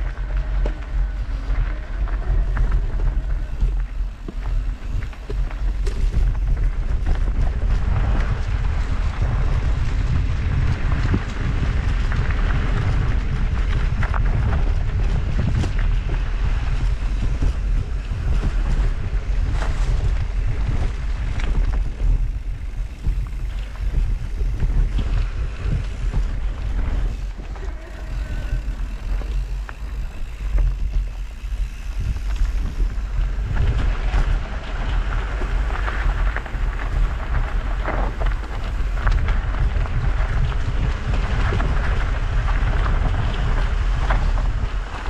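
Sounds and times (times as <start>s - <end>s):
bike knocking and rattling: 0.0s - 45.0s
bike tyres rolling on dirt: 0.0s - 45.0s
wind rumble on microphone: 0.0s - 45.0s.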